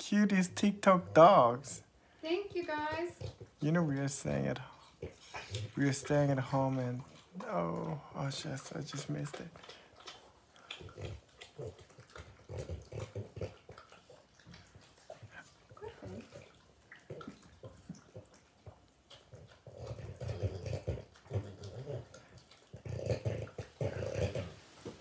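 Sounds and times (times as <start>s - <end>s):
dogs chewing wetly: 0.2s - 25.0s
dogs low throaty sounds: 2.7s - 25.0s.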